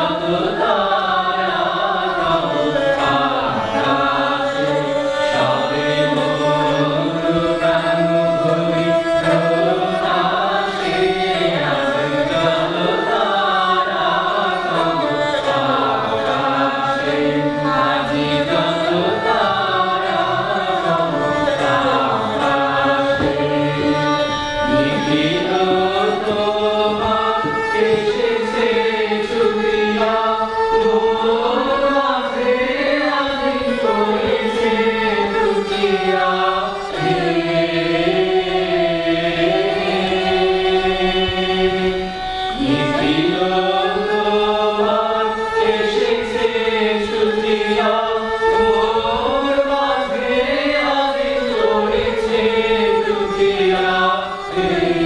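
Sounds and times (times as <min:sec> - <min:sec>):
slow song with gliding vocals: 0:00.0 - 0:55.0
steady held accompaniment: 0:00.0 - 0:55.0.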